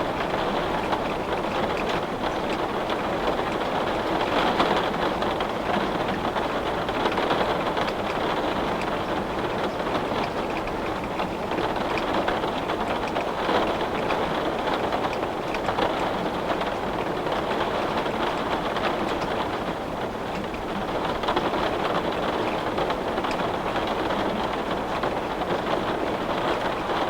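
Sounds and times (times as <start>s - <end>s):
rain on a glass window: 0.0s - 27.0s.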